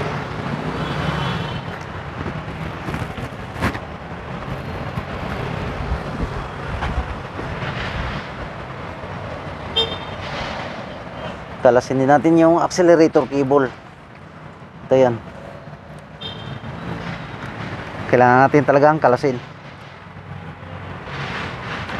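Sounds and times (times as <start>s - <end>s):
road traffic: 0.0s - 21.9s.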